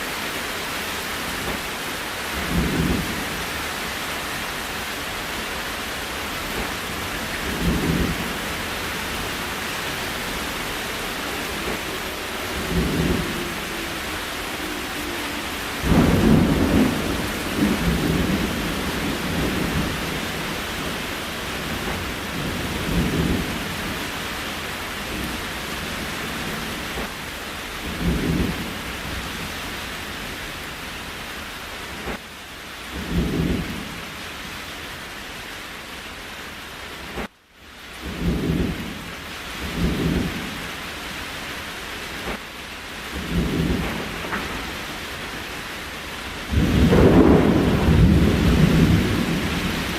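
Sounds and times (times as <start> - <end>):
rain hiss: 0.0 - 49.9.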